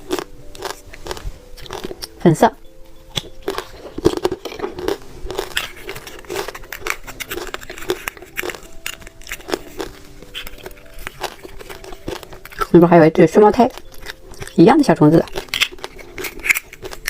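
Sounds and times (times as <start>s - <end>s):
crunchy candy being chewed: 0.0s - 2.2s, 3.0s - 17.0s.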